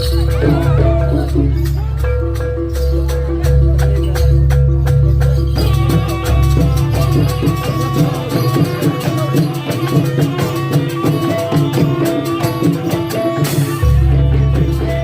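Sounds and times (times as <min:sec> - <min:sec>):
fast hand drumming: 0:00.0 - 0:15.0
ringing pitched percussion: 0:00.0 - 0:15.0.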